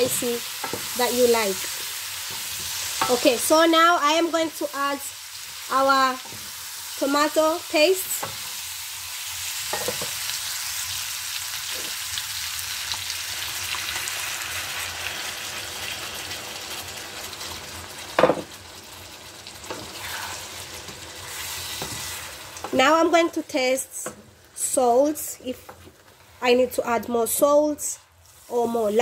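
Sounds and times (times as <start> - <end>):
chicken sizzling in oil: 0.0 - 26.5, 27.8 - 29.0.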